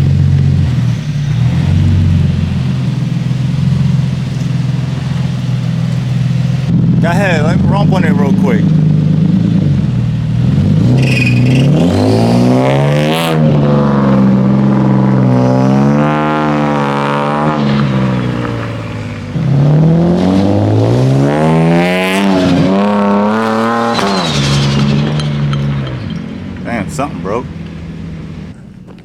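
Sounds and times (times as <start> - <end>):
turbocharged car engine revving: 0.0 - 28.6.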